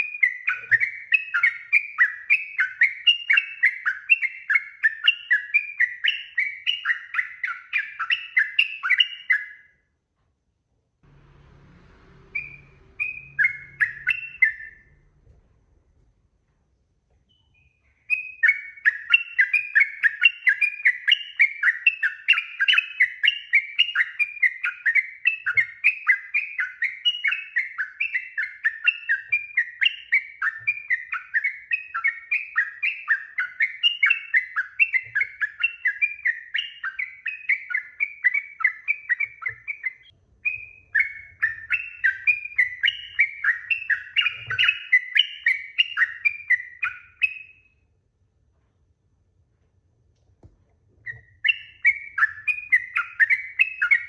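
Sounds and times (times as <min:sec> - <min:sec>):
bulbul singing: 0:00.0 - 0:09.8, 0:11.1 - 0:15.2, 0:17.3 - 0:47.8, 0:51.0 - 0:54.0.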